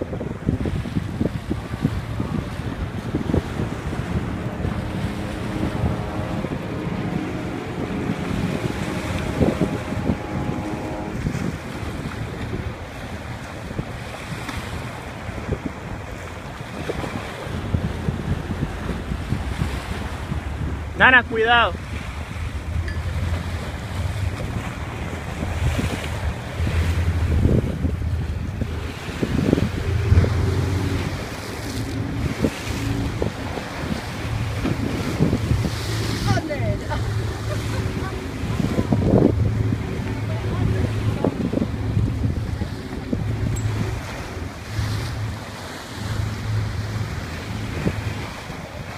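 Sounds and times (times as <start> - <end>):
boat engine hum: 0.0 - 48.9
waves splashing against rocks: 0.0 - 48.9
wind buffeting microphone: 0.0 - 48.9
low drone: 1.0 - 48.9.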